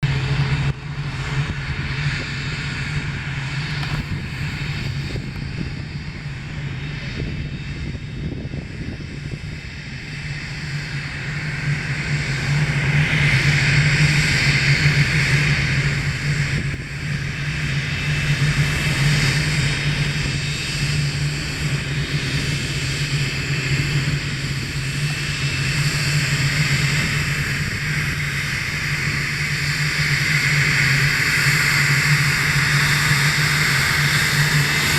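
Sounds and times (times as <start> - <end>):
jet engines humming: 0.0 - 34.9.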